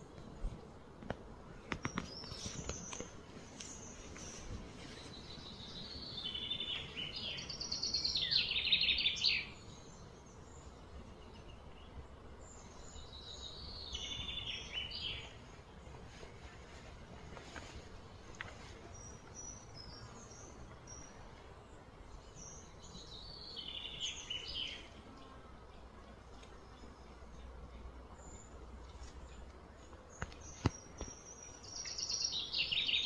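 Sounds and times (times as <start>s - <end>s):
outdoor ambience: 0.0s - 33.0s
bird singing: 1.8s - 15.5s, 18.9s - 25.8s, 26.6s - 33.0s.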